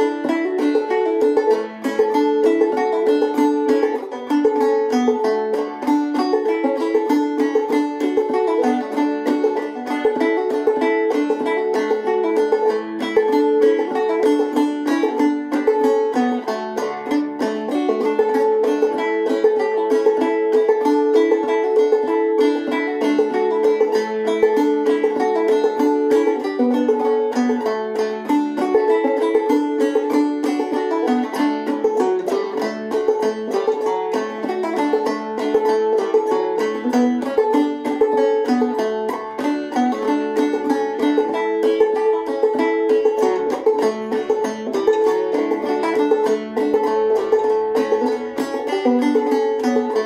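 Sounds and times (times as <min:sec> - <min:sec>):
clawhammer banjo playing: 0:00.0 - 0:50.0.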